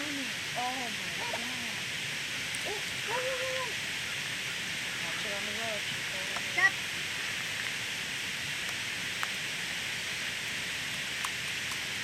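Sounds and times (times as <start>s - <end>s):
rain falling: 0.0s - 12.0s
sharp ticks of raindrops: 0.0s - 12.0s.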